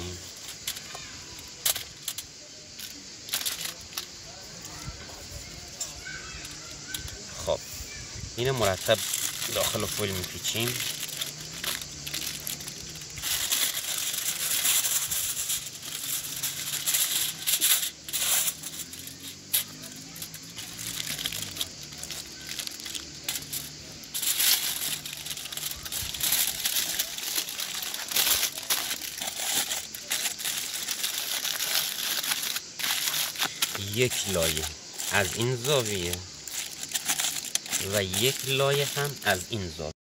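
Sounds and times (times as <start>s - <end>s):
aluminium foil crinkling: 0.0s - 7.2s, 8.4s - 40.0s.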